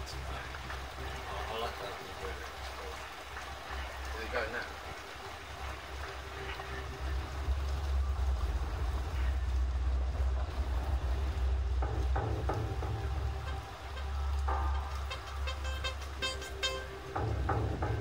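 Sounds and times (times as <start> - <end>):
heavy rain on a window: 0.0 - 18.0
low drone: 0.0 - 18.0.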